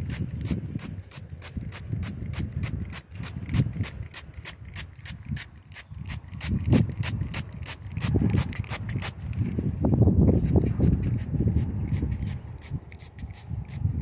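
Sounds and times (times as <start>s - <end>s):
spray bottle squirting mist: 0.0s - 9.4s, 10.4s - 14.0s.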